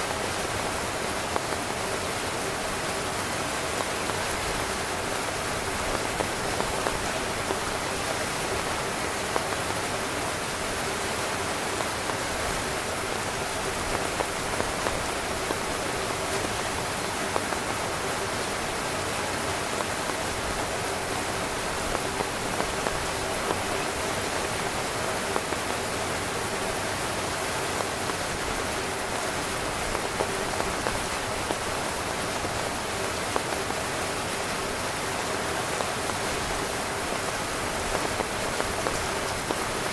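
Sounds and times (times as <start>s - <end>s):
heavy rain drumming on a tent: 0.0s - 39.9s.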